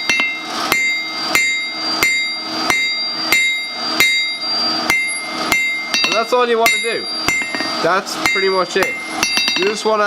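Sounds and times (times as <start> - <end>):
hammer striking metal on anvil: 0.0 - 10.0.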